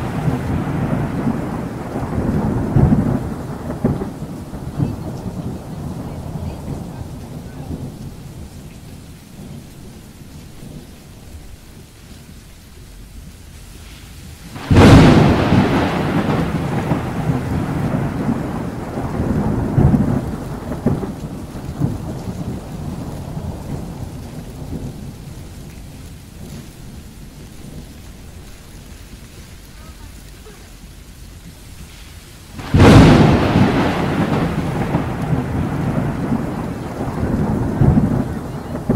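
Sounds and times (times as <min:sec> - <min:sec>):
thunderclap rumbling: 0:00.0 - 0:12.4, 0:14.3 - 0:38.9
heavy rain on windshield: 0:00.0 - 0:38.9.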